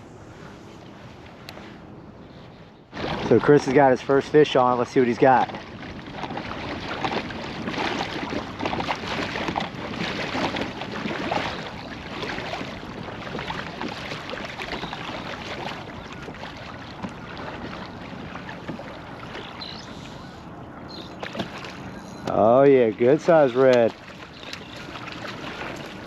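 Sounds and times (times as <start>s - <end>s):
water splashing and lapping: 0.4s - 26.0s.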